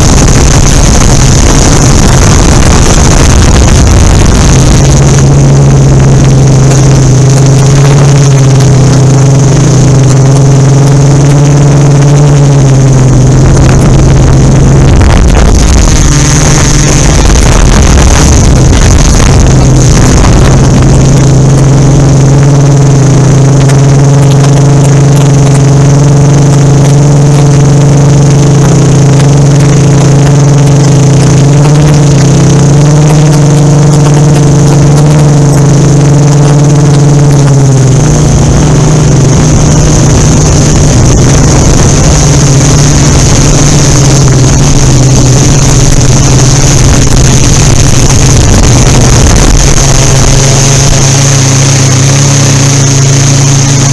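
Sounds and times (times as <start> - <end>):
drone motors droning: 0.0 - 53.9
wind rumble: 0.0 - 53.9.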